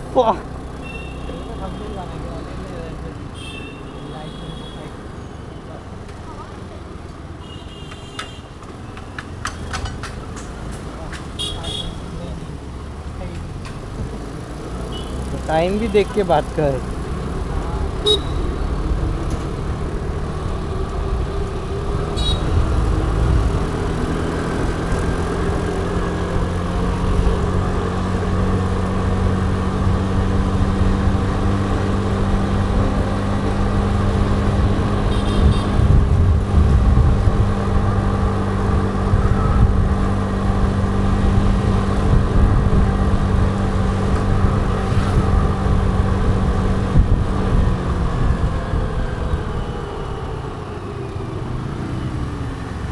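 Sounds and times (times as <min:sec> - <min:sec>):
road traffic: 0:00.0 - 0:52.9
scooter engine running: 0:09.4 - 0:52.9.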